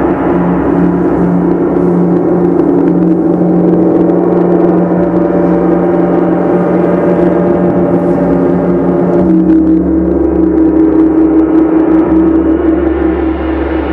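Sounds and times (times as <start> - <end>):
large gongs ringing: 0.0 - 13.9.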